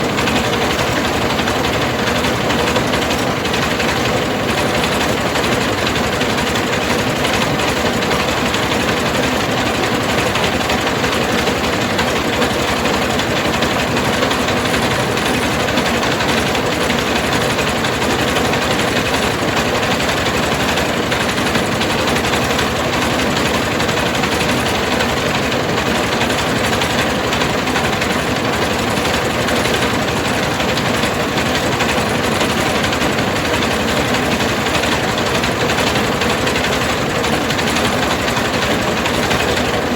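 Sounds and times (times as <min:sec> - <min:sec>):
rice milling machine running: 0:00.0 - 0:39.9.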